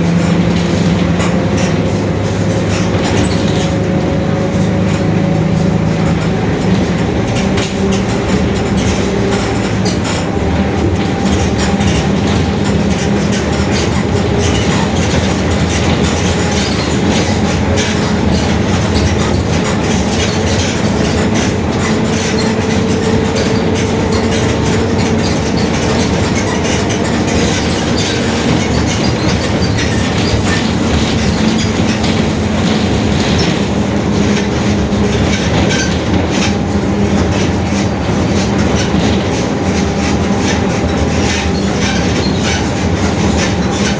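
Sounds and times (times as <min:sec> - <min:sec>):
bus differential droning: 0:00.0 - 0:43.9
bus running noise: 0:00.0 - 0:43.9.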